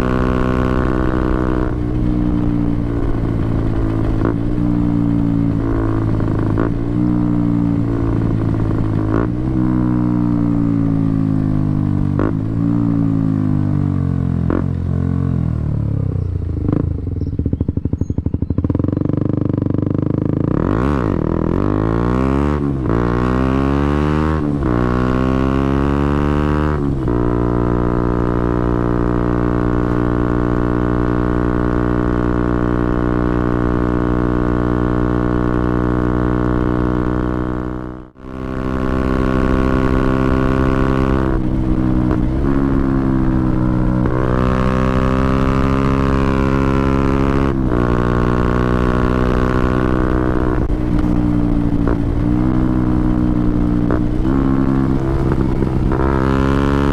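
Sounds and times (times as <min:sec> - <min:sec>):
motorcycle engine revving and shifting: 0:00.0 - 0:56.9.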